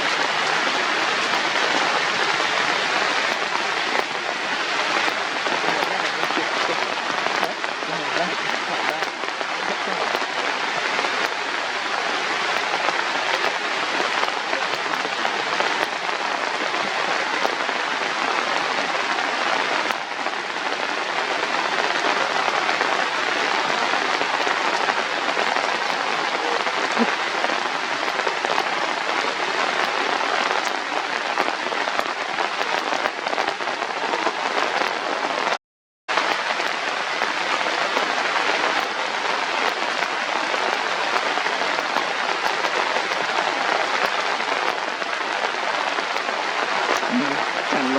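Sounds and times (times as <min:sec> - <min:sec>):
rain hissing on surfaces: 0:00.0 - 0:47.9.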